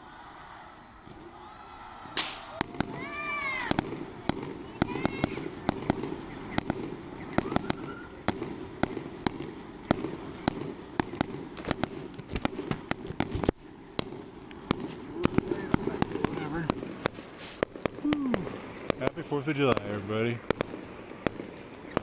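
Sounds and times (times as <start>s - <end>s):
fireworks popping and cracking: 2.1s - 22.0s.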